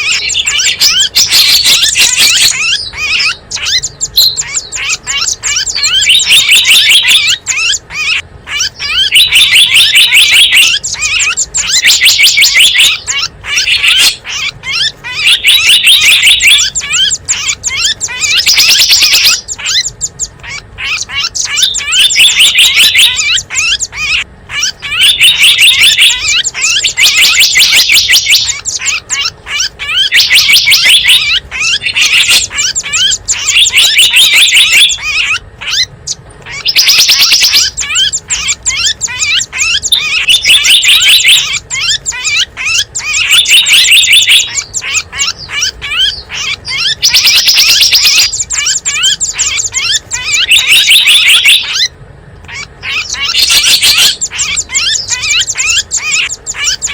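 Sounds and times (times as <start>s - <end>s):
loud high twittering bursts: 0.0s - 56.9s
small birds chattering: 0.0s - 56.9s.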